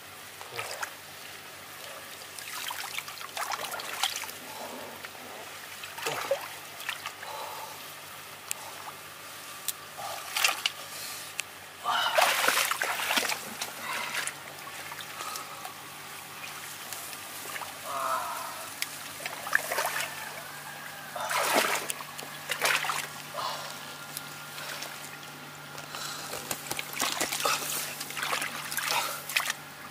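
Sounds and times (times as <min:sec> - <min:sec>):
water splashing and sloshing: 0:00.4 - 0:08.0, 0:08.6 - 0:10.9, 0:11.8 - 0:18.0, 0:18.6 - 0:23.8, 0:24.4 - 0:25.3, 0:26.4 - 0:29.9.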